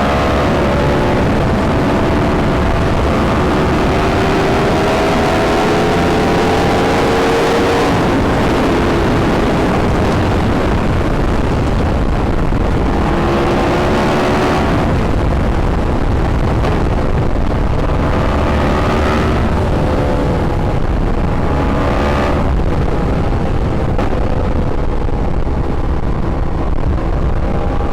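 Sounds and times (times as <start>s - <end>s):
motorcycle engine: 0.0s - 27.9s
wind noise rushing: 0.0s - 27.9s.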